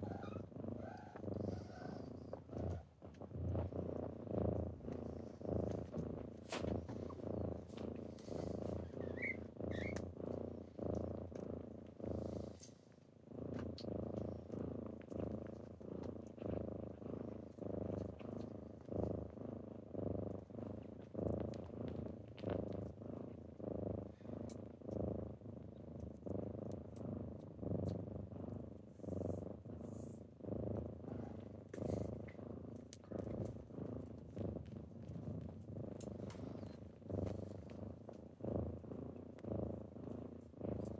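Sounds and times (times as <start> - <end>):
kitten purring: 0.0 - 40.9.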